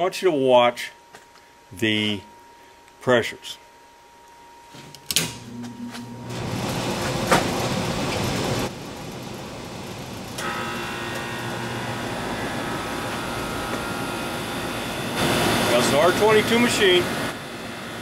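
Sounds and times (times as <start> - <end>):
air conditioner running: 0.0 - 18.0
steady high whine: 0.0 - 18.0.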